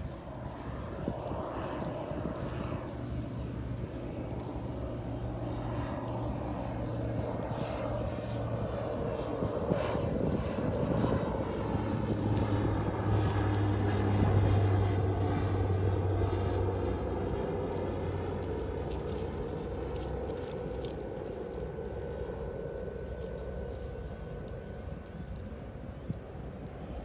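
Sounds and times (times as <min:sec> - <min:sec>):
engine drone passing by: 0:00.0 - 0:27.0.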